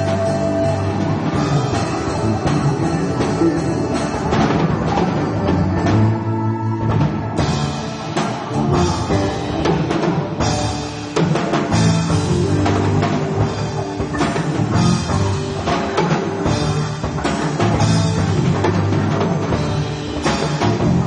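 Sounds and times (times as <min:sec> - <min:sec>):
low pitched notes: 0:00.0 - 0:11.0, 0:11.7 - 0:21.0
band playing live: 0:00.0 - 0:21.0
drum kit crashes and hits: 0:00.0 - 0:21.0.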